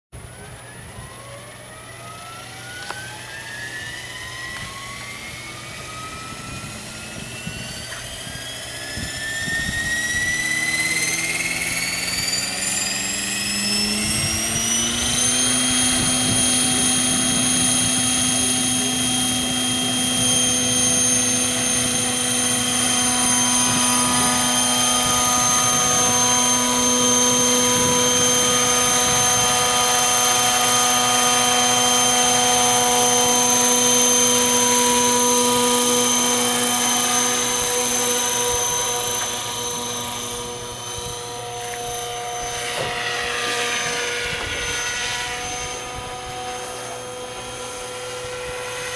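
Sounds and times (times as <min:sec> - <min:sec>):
rc helicopter motor whine: 0:00.2 - 0:48.9.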